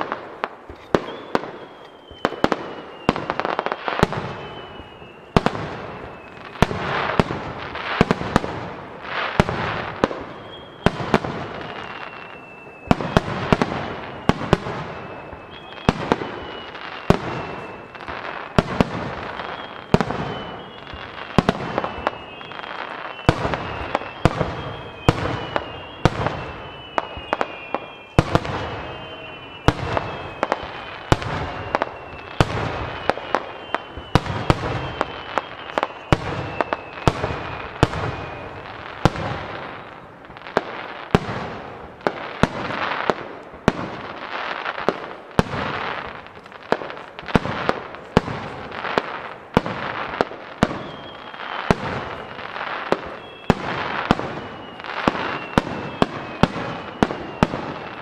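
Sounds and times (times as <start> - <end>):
firework whistles gliding down: 0.0 - 58.0
fireworks crackle: 0.0 - 58.0.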